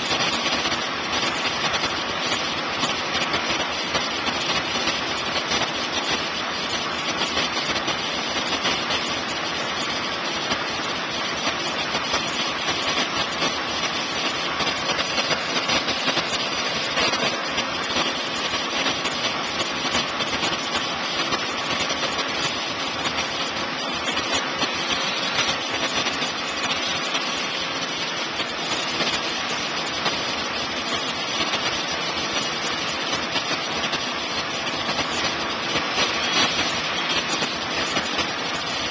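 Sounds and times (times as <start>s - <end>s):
crane engine running: 0.0s - 38.9s.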